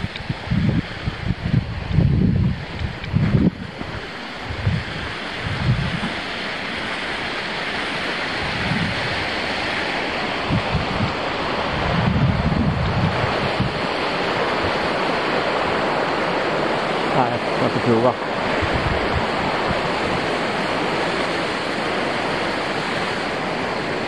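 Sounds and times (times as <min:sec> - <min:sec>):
steady rushing hiss: 0:00.0 - 0:24.0
wind buffeting microphone: 0:00.0 - 0:24.0.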